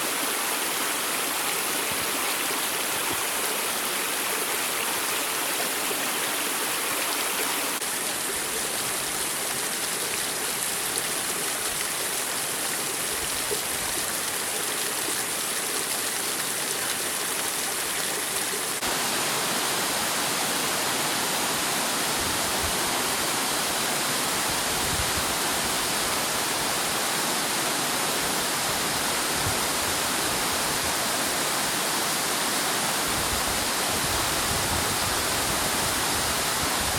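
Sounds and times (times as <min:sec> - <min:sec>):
waterfall rushing and splashing: 0:00.0 - 0:36.9.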